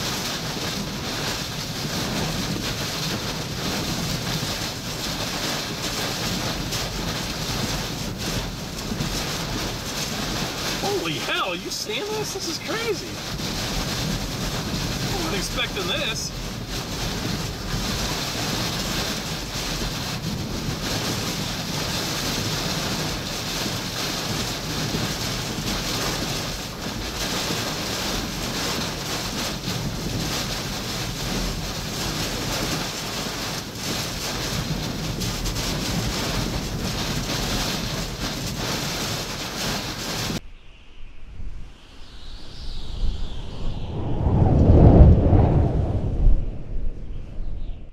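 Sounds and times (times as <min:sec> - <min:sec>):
strong wind on microphone: 0:00.0 - 0:47.9.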